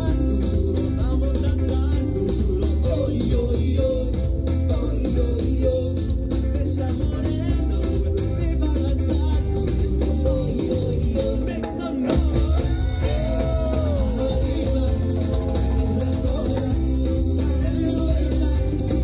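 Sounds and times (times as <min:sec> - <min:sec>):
live latin band playing: 0:00.0 - 0:19.0.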